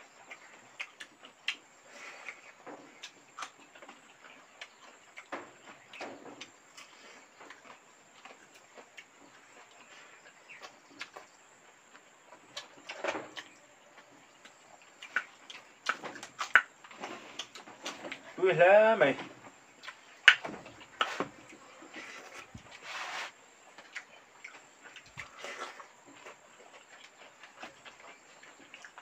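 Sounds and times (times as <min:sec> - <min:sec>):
wet mouth clicks and chewing: 0:00.1 - 0:09.9, 0:10.5 - 0:11.3, 0:12.3 - 0:18.3, 0:19.8 - 0:22.8, 0:23.7 - 0:29.0.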